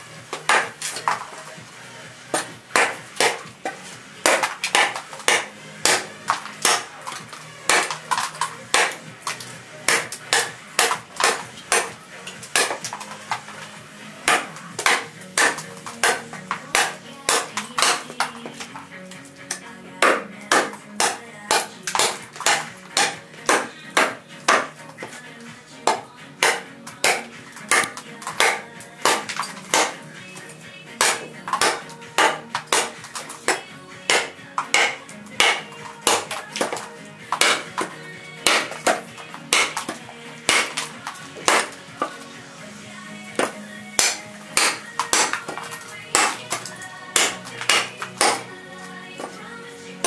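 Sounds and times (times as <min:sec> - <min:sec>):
knife chopping with sharp strikes: 0:00.3 - 0:01.2, 0:02.3 - 0:13.5, 0:14.2 - 0:18.8, 0:19.5 - 0:25.2, 0:25.8 - 0:42.2, 0:43.4 - 0:48.5.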